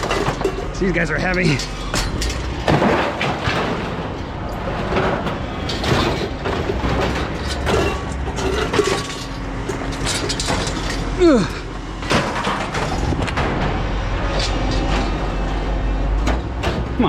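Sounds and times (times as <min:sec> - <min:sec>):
steady low rumble: 0:00.0 - 0:16.8
scrap metal clanking and scraping: 0:00.0 - 0:17.0.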